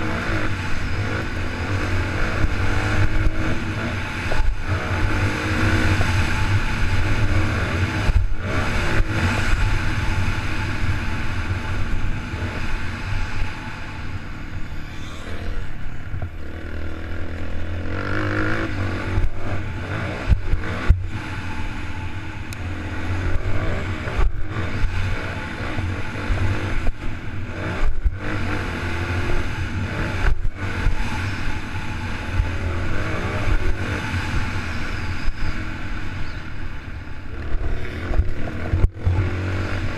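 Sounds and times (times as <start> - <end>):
dirt bike engine revving: 0.0 - 39.9
wind rumble on microphone: 0.0 - 39.9.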